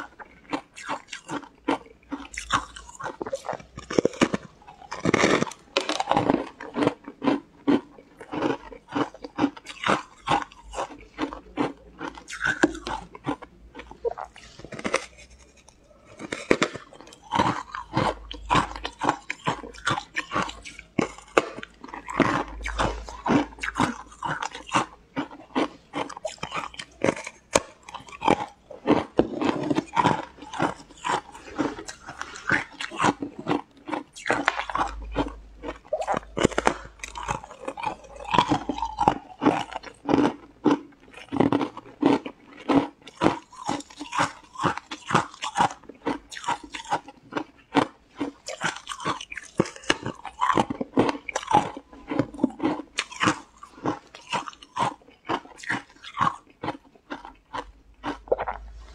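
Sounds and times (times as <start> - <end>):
person crunching crispy food: 0.0 - 58.9.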